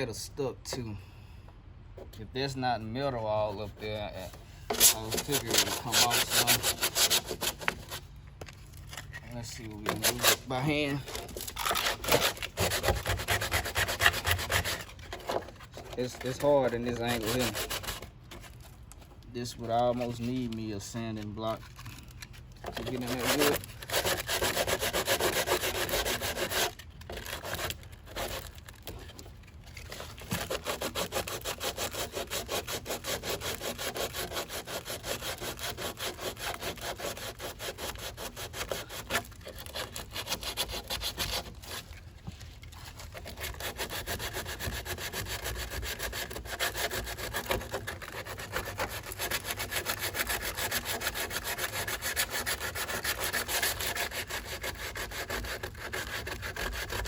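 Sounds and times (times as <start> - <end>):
sandpaper scraping strokes: 2.5 - 18.8, 19.4 - 57.0.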